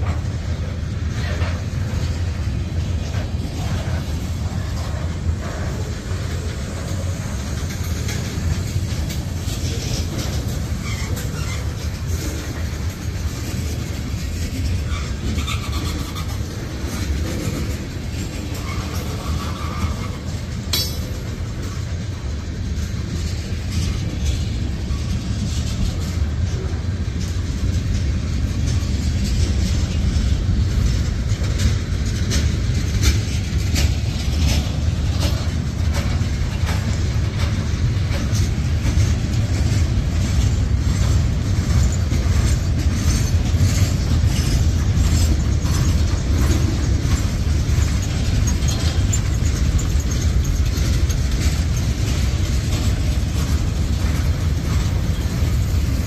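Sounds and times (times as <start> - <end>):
freight train rolling past: 0.0 - 56.0
train wheels clicking and clanking: 0.0 - 56.0.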